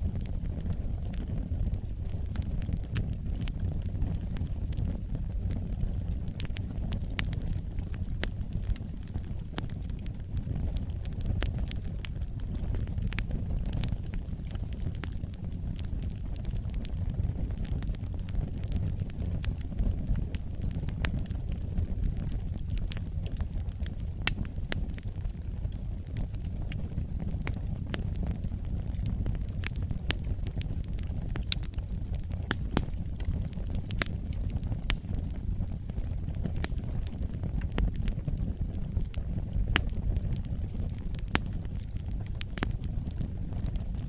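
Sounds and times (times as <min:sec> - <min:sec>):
campfire crackling and popping: 0:00.0 - 0:44.0
low rumble of flame: 0:00.0 - 0:44.0.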